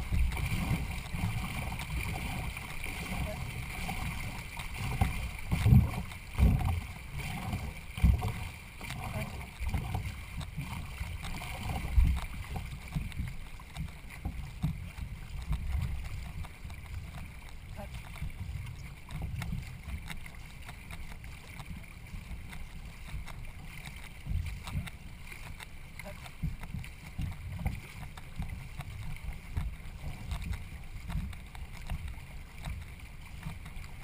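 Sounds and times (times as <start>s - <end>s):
faint clicks: 4.5s - 34.0s.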